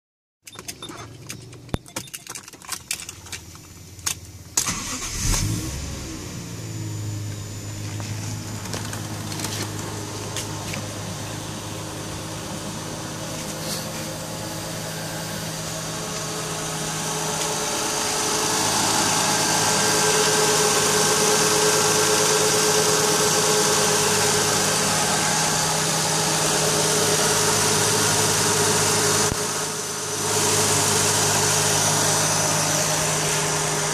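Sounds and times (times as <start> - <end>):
car engine starting and idling: 0.4 - 33.9.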